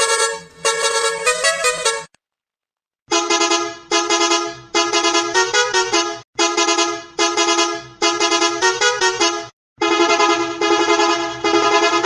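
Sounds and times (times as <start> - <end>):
pitch-shifted bus horn honks: 0.0 - 2.2, 3.1 - 12.0.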